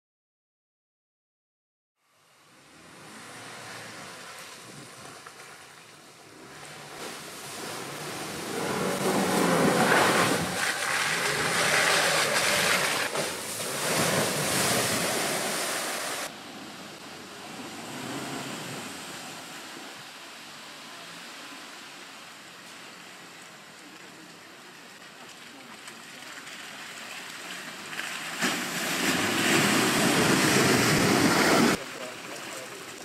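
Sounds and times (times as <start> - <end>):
tyres rushing through wet mud: 2.6 - 33.0.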